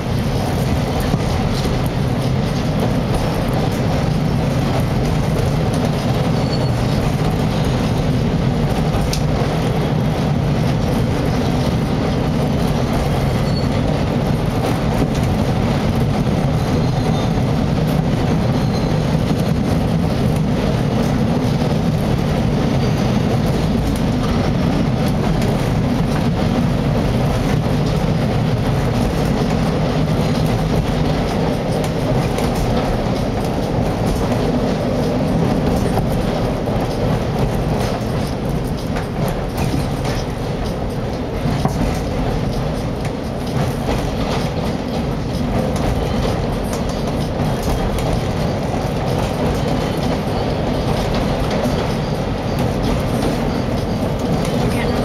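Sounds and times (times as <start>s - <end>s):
train wheels on rail: 0.0s - 55.0s.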